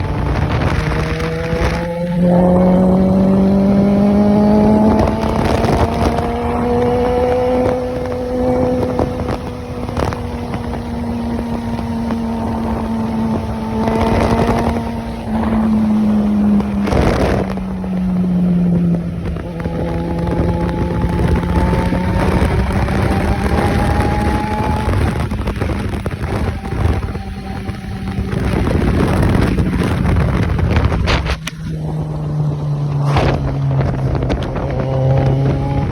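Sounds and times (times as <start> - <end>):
car engine running through bare exhaust: 0.0 - 35.9.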